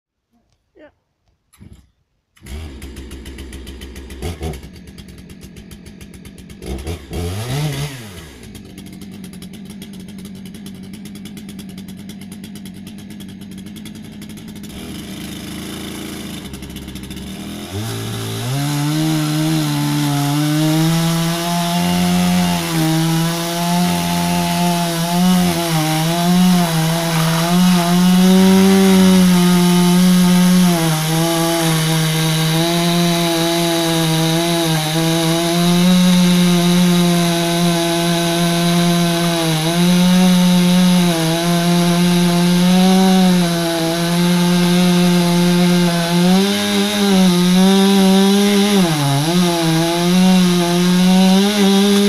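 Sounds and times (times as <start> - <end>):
chainsaw cutting firewood: 2.4 - 52.0
chainsaw idling and revving: 2.4 - 52.0.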